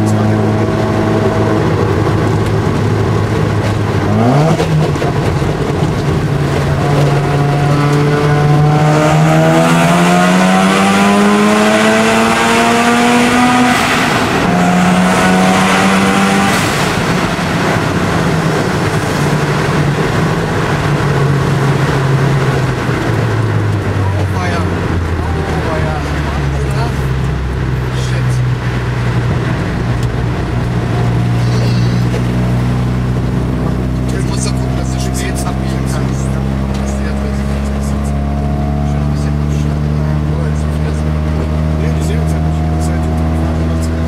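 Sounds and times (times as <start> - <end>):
high turbo whine: 0.0 - 44.0
rotary engine accelerating: 0.0 - 44.0.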